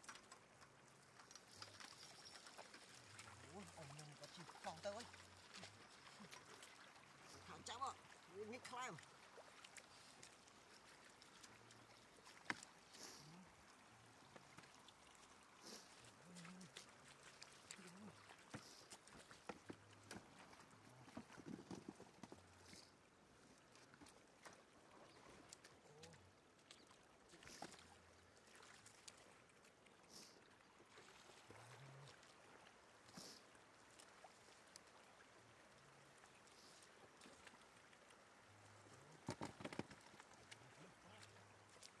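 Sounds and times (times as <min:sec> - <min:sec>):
faint splashing in water: 0:00.0 - 0:42.0.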